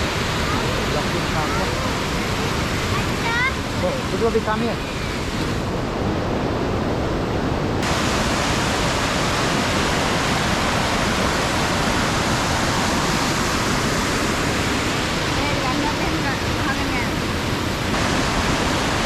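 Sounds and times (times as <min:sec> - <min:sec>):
water rushing at a dam: 0:00.0 - 0:19.0.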